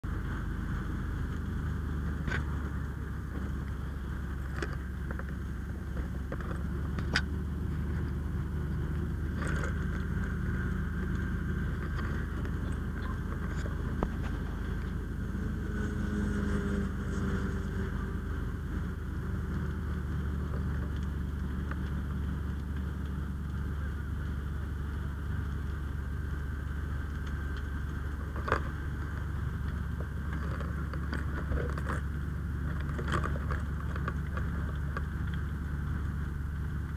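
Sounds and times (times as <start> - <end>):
diesel engine humming: 0.0 - 36.9.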